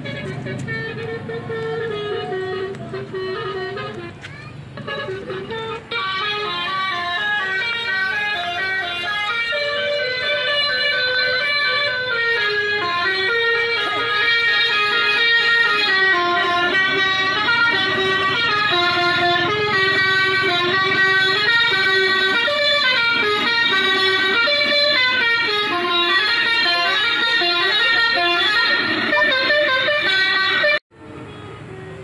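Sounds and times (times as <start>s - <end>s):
multi-tone bus horn melody: 0.0s - 32.0s.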